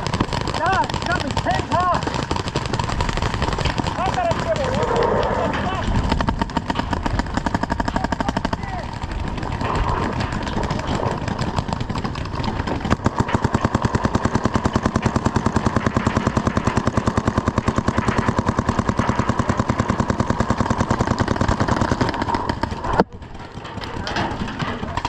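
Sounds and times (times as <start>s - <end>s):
paintball markers firing: 0.0s - 24.1s.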